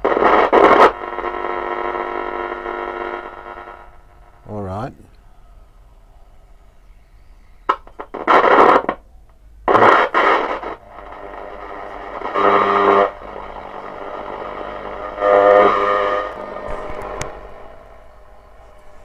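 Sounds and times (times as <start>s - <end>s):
loud bursts of radio static: 0.0s - 5.1s, 7.7s - 19.0s
radio loudspeaker crackling: 0.0s - 5.7s, 7.7s - 19.0s
steady hum: 0.0s - 19.0s.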